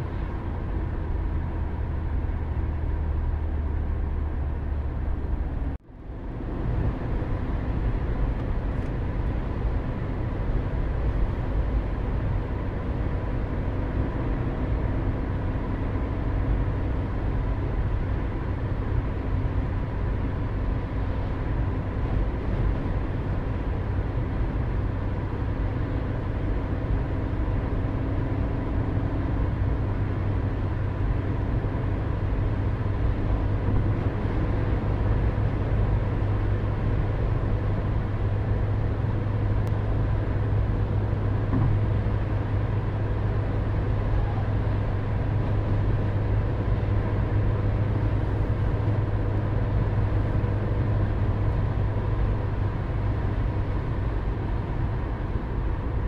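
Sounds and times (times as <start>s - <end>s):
road and engine rumble: 0.0s - 56.0s.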